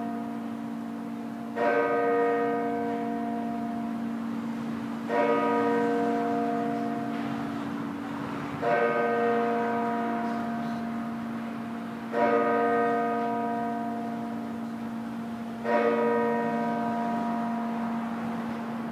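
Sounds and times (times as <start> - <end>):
clock bell striking: 0.0 - 4.3, 4.9 - 7.6, 8.6 - 18.2.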